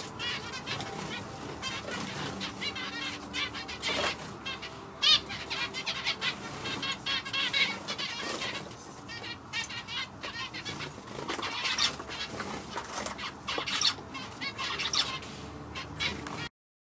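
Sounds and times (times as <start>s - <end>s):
finch chirping song: 0.0s - 16.5s.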